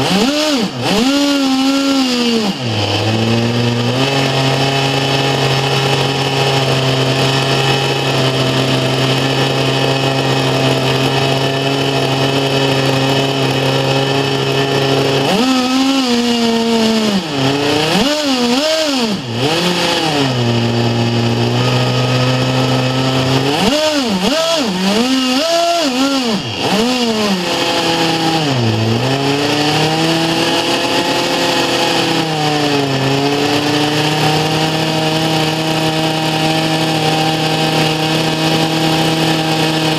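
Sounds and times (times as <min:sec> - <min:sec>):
model engine screaming: 0:00.0 - 0:39.9.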